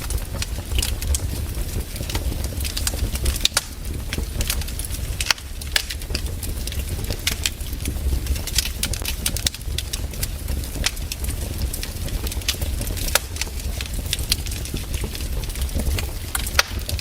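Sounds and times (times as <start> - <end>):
low steady rumble: 0.0 - 17.0
wood fire crackling and popping: 0.0 - 17.0.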